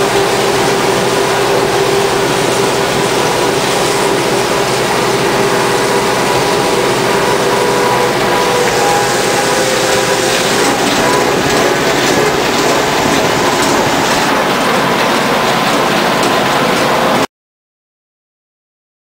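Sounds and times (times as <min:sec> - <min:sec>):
tractor engine and mower running: 0:00.0 - 0:17.2.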